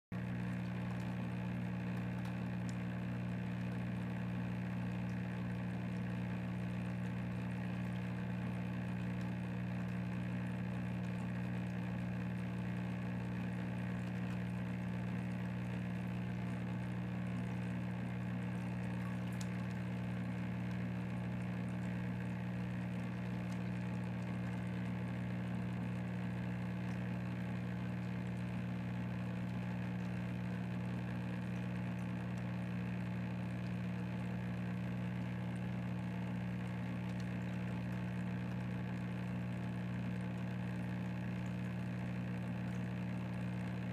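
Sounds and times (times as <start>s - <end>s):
pump motor humming: 0.2s - 43.9s.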